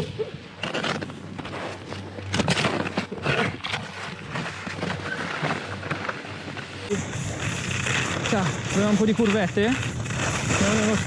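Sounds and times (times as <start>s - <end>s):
skis scraping over snow: 0.7s - 11.0s.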